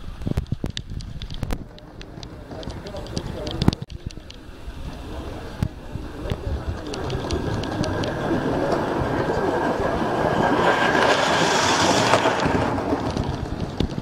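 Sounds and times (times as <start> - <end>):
rail clicks: 0.0 - 14.0
steam locomotive hissing: 1.8 - 13.7.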